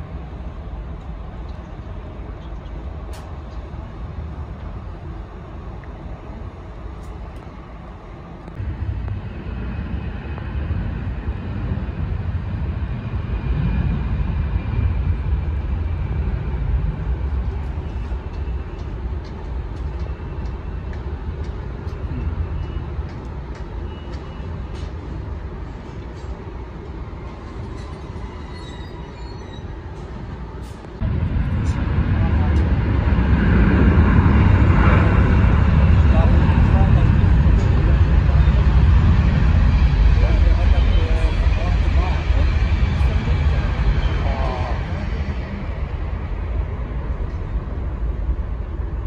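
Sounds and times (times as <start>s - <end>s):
distant jet engines rumbling: 0.0s - 49.0s.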